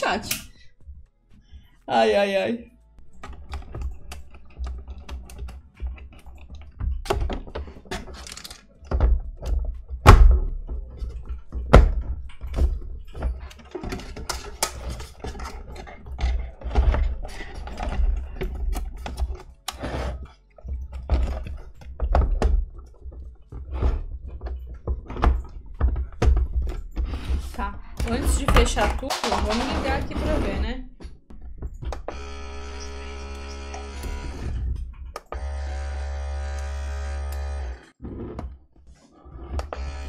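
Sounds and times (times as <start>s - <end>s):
plastic parts knocking and clacking: 3.0s - 37.6s.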